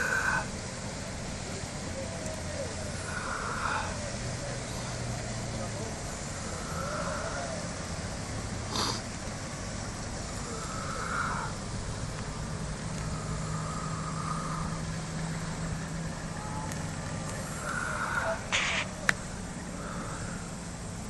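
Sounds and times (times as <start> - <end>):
faint distant high calls: 0.0 - 21.0
vehicle engine hum: 0.0 - 21.0.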